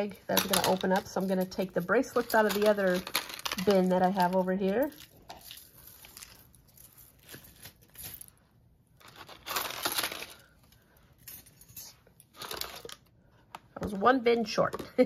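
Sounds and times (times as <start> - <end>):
bracelets clinking: 0.0 - 8.4, 9.0 - 13.0.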